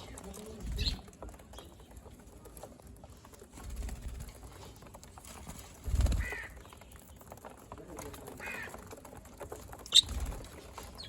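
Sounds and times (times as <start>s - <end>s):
small clicks and scratching: 0.0s - 11.0s.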